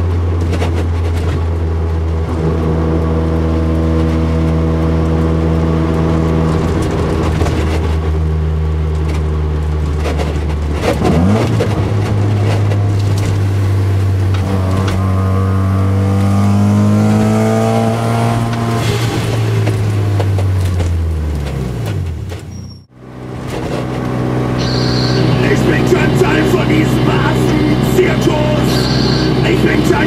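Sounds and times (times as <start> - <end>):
rotary engine cruising: 0.0 - 30.0.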